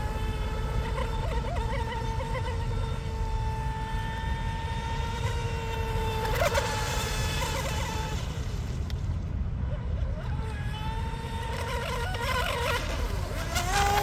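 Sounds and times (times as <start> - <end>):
electric motor whining: 0.0 - 9.0, 10.1 - 14.0.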